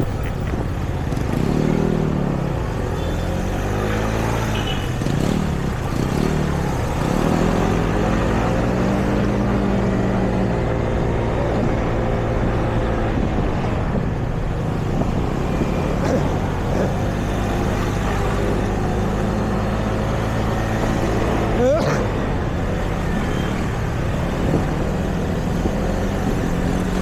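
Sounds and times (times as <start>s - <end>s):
traffic rumble: 0.0s - 27.0s
vehicle engines passing: 0.0s - 27.0s.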